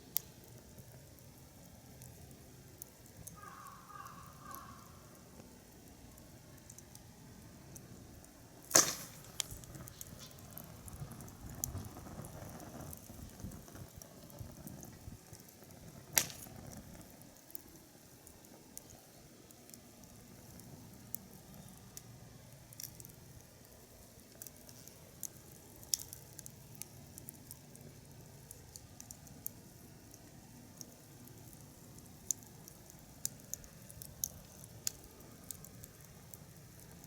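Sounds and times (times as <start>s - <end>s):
sharp fire cracks: 0.0s - 37.0s
wood fire crackling: 0.0s - 37.0s.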